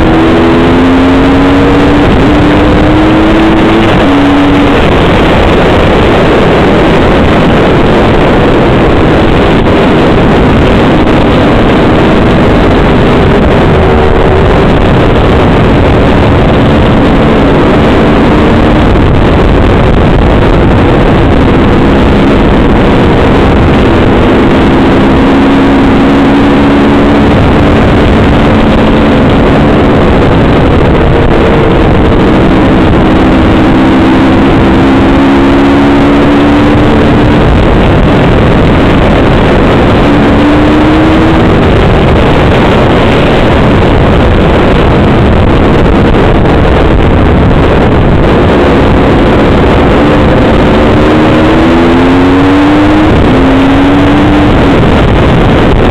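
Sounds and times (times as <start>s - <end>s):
dirt bike engine running: 0.0s - 55.9s
wind rush on microphone: 0.0s - 55.9s.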